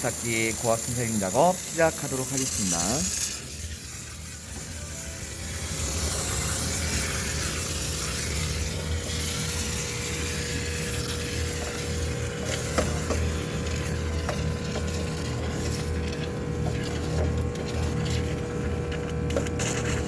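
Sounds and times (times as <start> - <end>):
steam hissing: 0.0 - 17.1
machine hum: 0.0 - 20.0.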